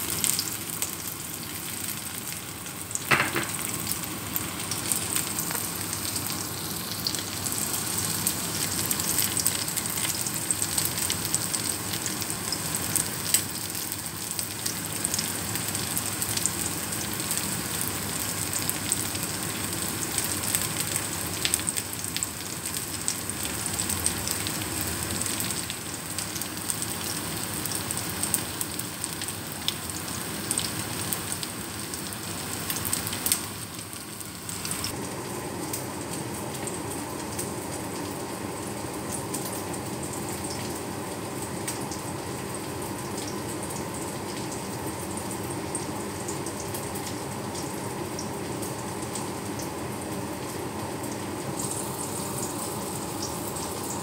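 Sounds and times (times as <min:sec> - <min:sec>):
meat frying in oil: 0:00.0 - 0:54.0.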